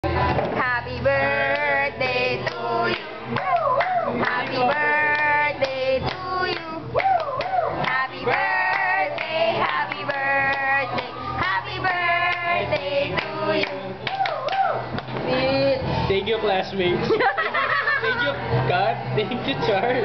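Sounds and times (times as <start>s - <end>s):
group of people singing: 0.0s - 16.1s.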